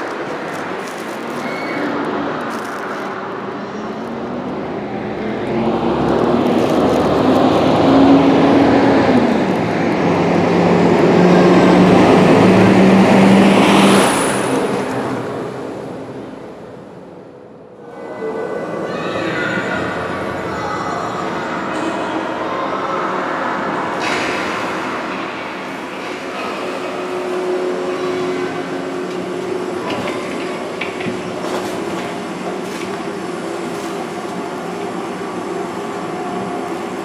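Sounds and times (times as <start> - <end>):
tram running on rails: 0.0 - 37.0.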